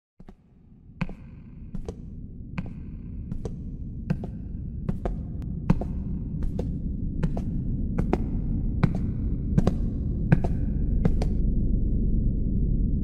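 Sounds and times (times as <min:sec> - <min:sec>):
low rumbling drone: 0:00.9 - 0:13.0.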